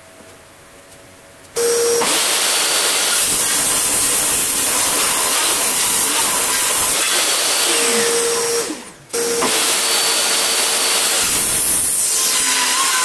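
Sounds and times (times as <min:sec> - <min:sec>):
table saw cutting wood board: 0:02.0 - 0:13.0.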